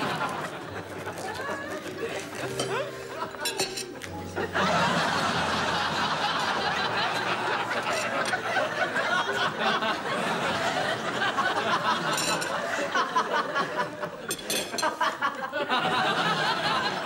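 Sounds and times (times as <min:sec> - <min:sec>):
audience laughing: 0:00.0 - 0:17.0.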